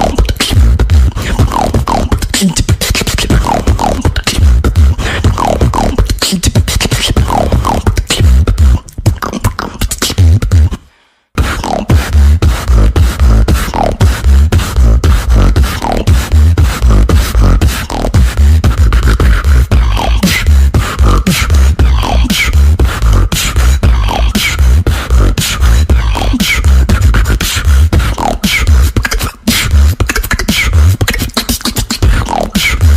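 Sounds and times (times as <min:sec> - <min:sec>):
beatboxing: 0:00.0 - 0:32.9.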